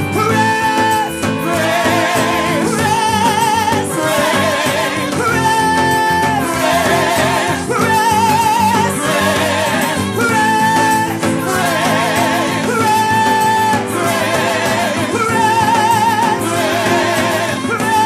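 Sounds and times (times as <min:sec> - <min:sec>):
band playing worship music: 0:00.0 - 0:18.0
voices holding long notes: 0:00.0 - 0:18.0.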